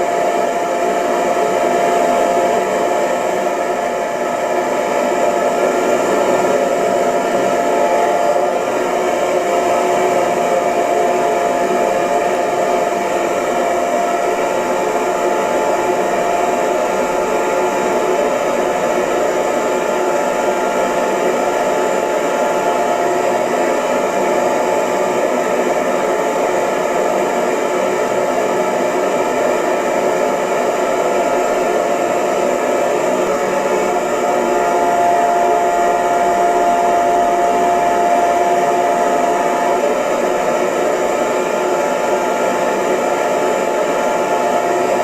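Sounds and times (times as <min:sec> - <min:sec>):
hair dryer blowing: 0:00.0 - 0:45.0.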